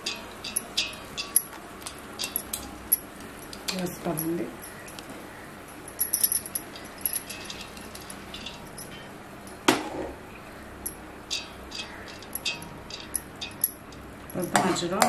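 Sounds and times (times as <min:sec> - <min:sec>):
metal clink: 0:00.0 - 0:09.7, 0:10.8 - 0:15.0.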